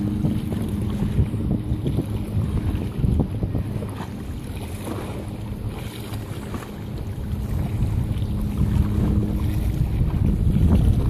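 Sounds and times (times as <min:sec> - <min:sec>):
faint engine drone: 0:00.0 - 0:11.0
wind buffeting microphone: 0:00.0 - 0:11.0.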